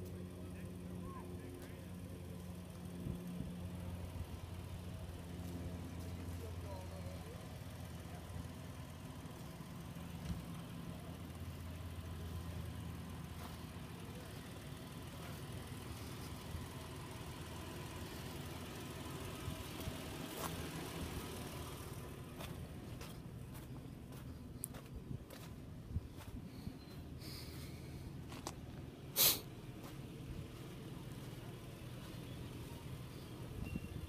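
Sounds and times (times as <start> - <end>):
engine running at low speed: 0.0 - 34.0.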